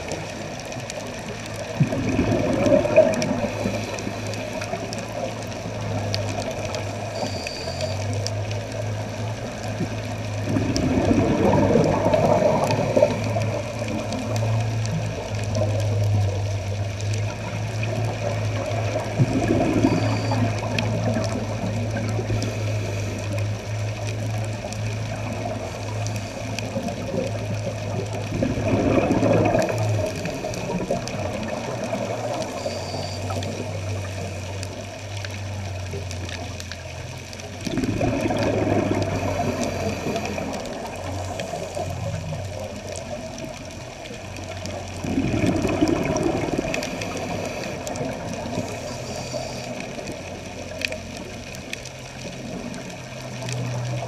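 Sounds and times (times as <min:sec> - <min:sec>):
steady low hum: 0:00.0 - 0:52.5
underwater regulator bubbles: 0:00.0 - 0:54.0.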